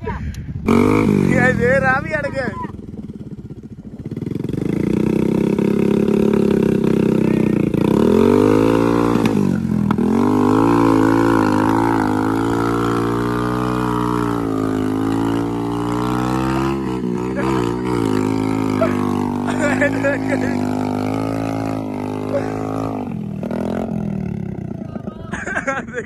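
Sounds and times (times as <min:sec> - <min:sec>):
motorcycle engines revving under load: 0:00.6 - 0:25.7.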